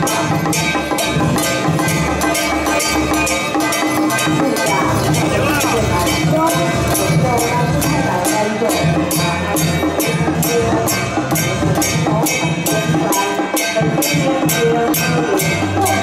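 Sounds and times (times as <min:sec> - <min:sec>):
drums and percussion beat: 0:00.0 - 0:16.0
wavering melody: 0:00.0 - 0:16.0.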